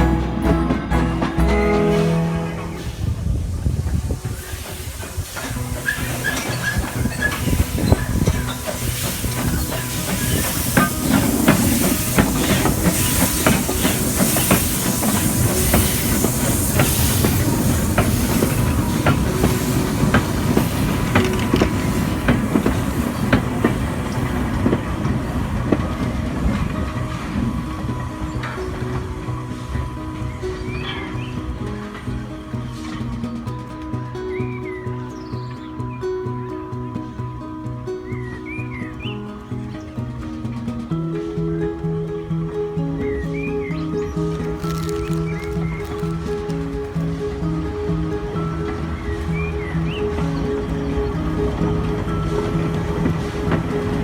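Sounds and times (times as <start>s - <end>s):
steam hissing: 0.0s - 54.0s
steam train rumble: 0.0s - 54.0s
wheels clicking over track: 0.0s - 54.0s.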